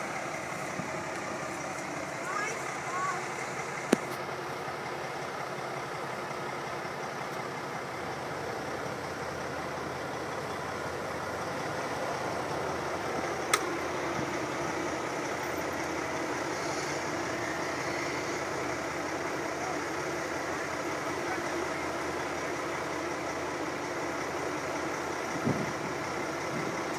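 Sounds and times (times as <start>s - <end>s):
truck diesel engine running: 0.0s - 26.9s.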